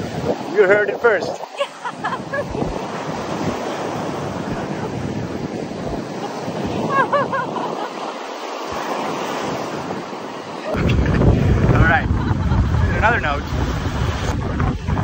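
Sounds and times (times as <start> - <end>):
ocean surf washing onto beach: 0.0 - 15.0
wind buffeting microphone: 0.0 - 15.0.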